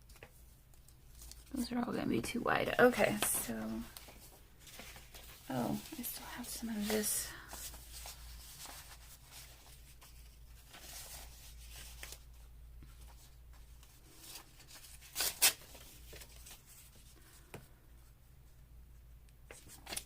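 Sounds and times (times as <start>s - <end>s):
paper crinkling: 0.0s - 1.7s, 2.9s - 17.4s, 19.5s - 20.0s
paper rustling: 0.1s - 1.7s, 2.9s - 17.4s, 19.5s - 20.0s.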